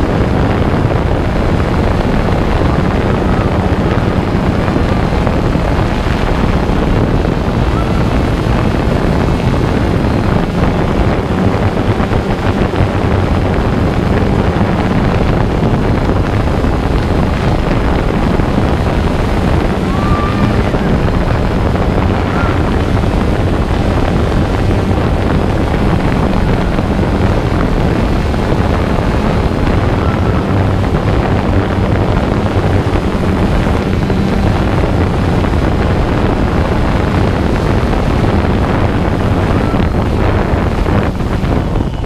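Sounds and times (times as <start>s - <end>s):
air rushing on microphone: 0.0s - 42.0s
drone propellers buzzing: 0.0s - 42.0s.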